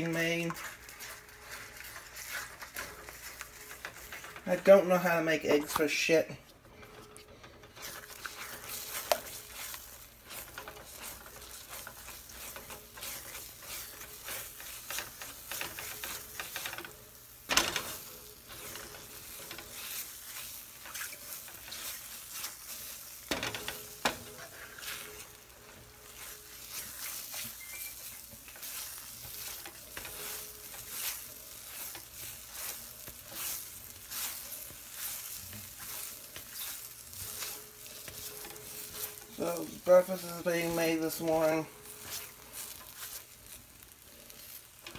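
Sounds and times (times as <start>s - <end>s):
eggs sizzling in frying pan: 0.0s - 44.9s
spatula scraping pan: 0.0s - 44.9s.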